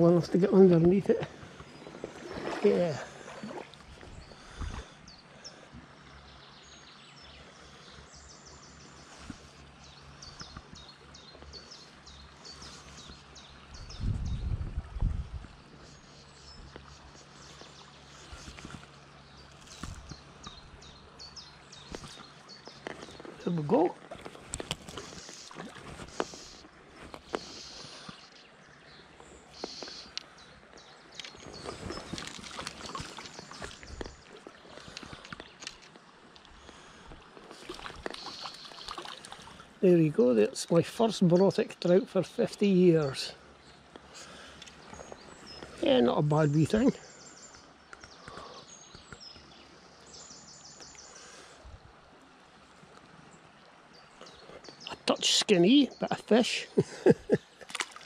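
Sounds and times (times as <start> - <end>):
stream running with splashes: 0.0 - 58.0.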